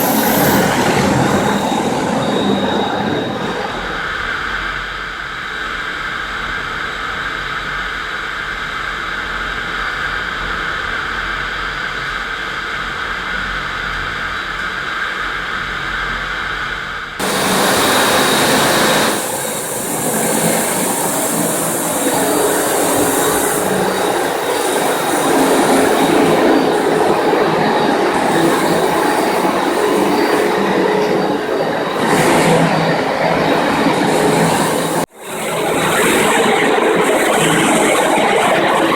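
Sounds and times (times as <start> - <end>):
concrete floor grinder whining: 0.0 - 4.6, 10.5 - 38.9.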